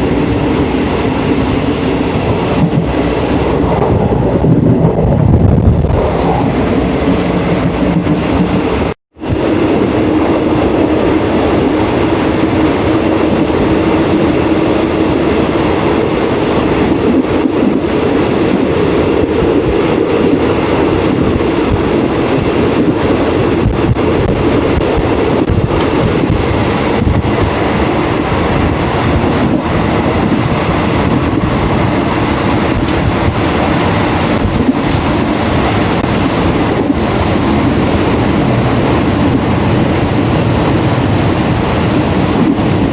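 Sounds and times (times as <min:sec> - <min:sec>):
train rumbling on track: 0:00.0 - 0:42.9.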